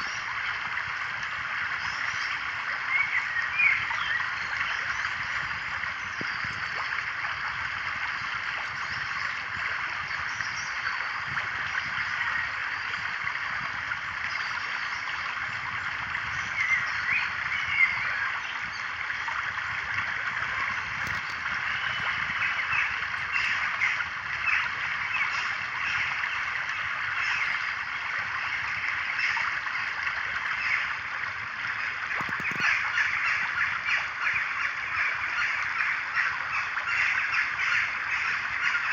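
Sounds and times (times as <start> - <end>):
birds chirping and calling: 1.8 - 31.1, 31.7 - 38.9.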